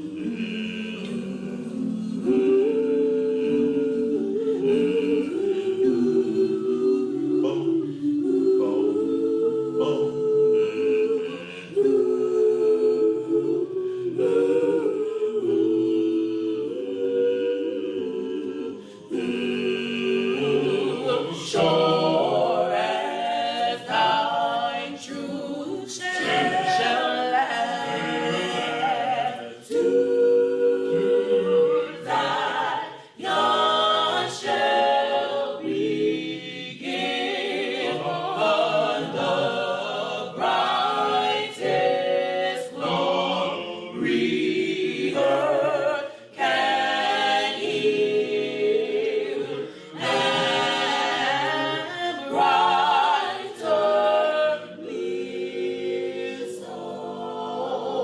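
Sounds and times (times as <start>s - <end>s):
choir singing unaccompanied: 0.0s - 58.0s.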